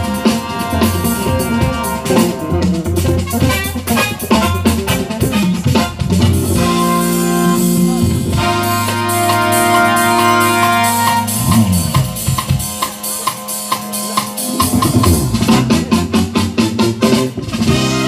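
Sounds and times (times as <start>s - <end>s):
jazz band playing: 0.0s - 18.0s
keyboard notes: 0.0s - 18.0s.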